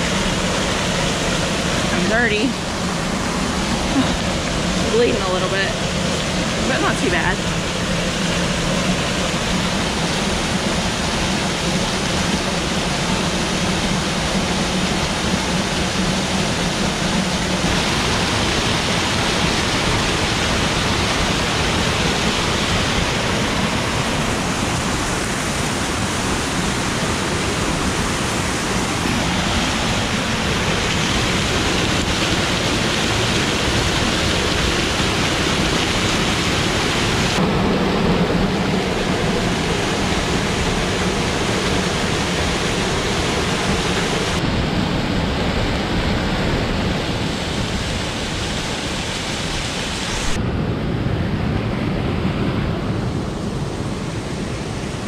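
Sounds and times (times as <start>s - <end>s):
waterfall rushing: 0.0s - 50.4s.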